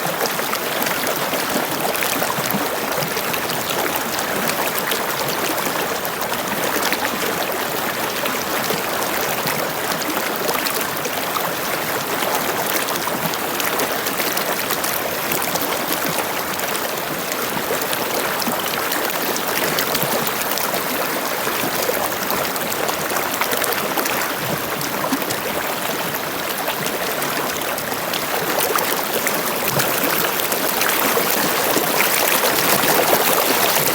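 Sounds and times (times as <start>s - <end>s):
water rushing and splashing: 0.0s - 33.9s.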